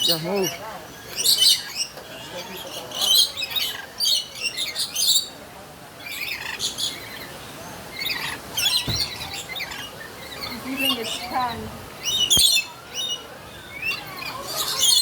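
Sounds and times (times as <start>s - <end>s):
lorikeets chirping and screeching: 0.0s - 5.4s, 6.0s - 15.0s.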